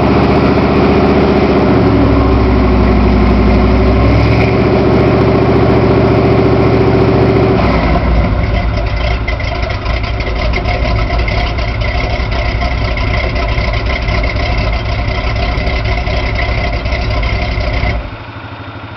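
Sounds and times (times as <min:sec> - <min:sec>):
v eight engine revving and idling: 0:00.0 - 0:18.9.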